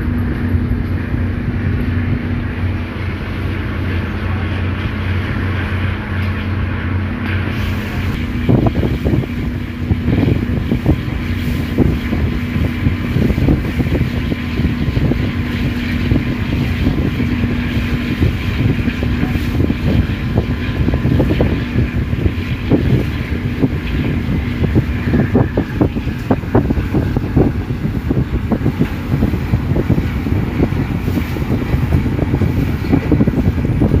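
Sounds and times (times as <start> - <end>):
ship engine running: 0.0 - 34.0
steady engine hum: 0.0 - 34.0
wind buffeting microphone: 0.0 - 34.0.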